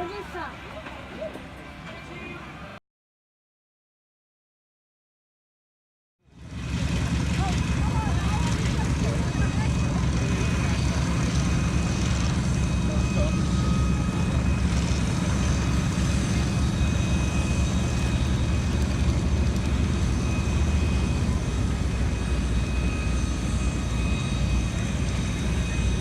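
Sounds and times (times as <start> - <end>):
airplane engine droning: 0.0 - 2.8, 6.3 - 26.0.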